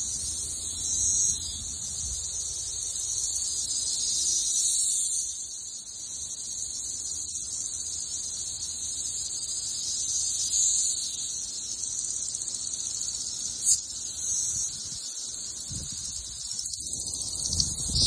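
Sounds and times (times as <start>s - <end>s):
cicadas buzzing drone: 0.0s - 18.0s.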